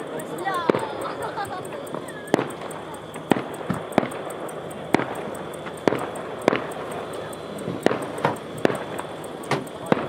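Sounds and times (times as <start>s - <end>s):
sharp ringing strikes: 0.0s - 10.0s.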